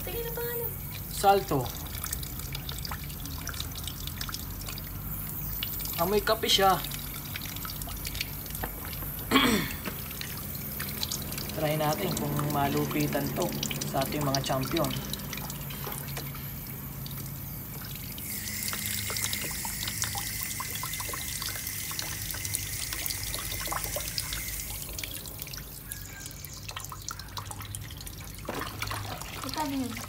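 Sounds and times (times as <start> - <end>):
tap water splashing into basin: 0.8 - 30.0.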